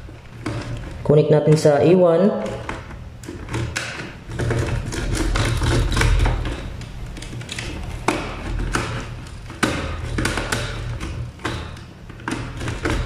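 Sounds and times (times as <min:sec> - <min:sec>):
hands clicking wire into terminals: 0:00.0 - 0:01.8, 0:02.4 - 0:13.0.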